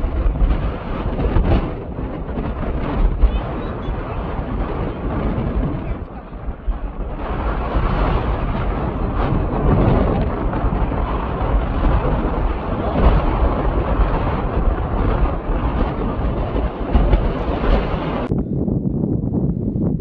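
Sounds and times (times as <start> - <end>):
off-road vehicle engine rumble: 0.0 - 20.0.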